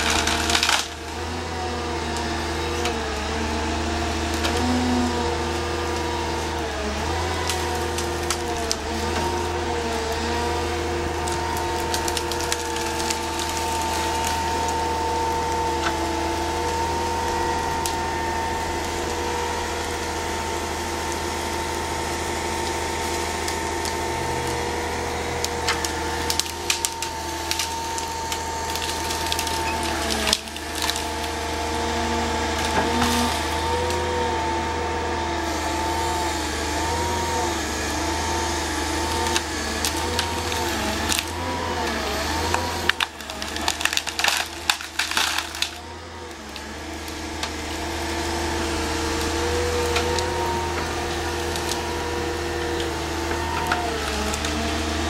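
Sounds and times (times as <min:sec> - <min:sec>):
engine and hydraulics whining: 0:00.0 - 0:55.0
wood cracking and splintering: 0:00.0 - 0:55.0.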